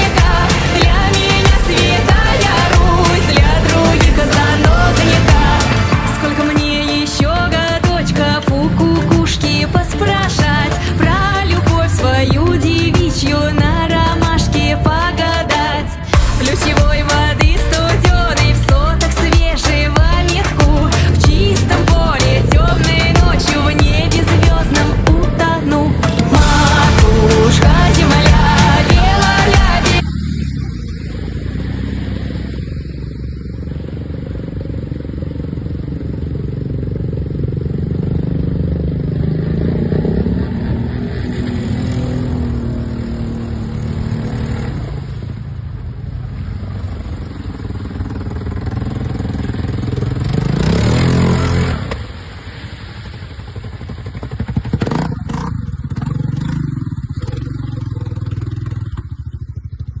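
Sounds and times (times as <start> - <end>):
vehicle engine revving: 0.0 - 60.0.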